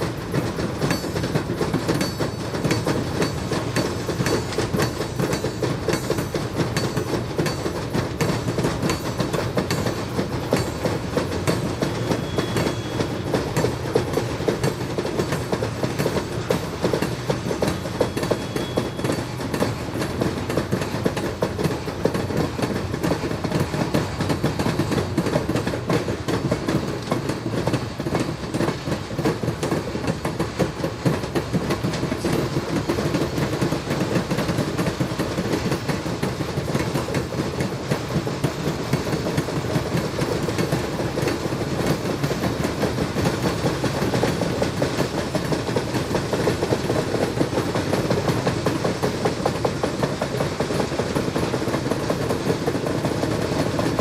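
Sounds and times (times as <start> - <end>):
diesel locomotive engine under load: 0.0 - 54.0
freight cars clattering over rails: 0.0 - 54.0.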